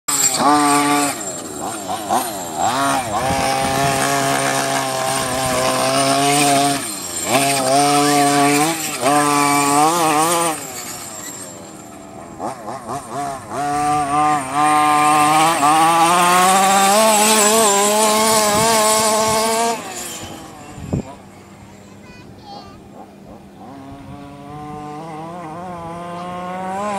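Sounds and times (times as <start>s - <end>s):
rc buggy engine revving: 0.1s - 26.9s.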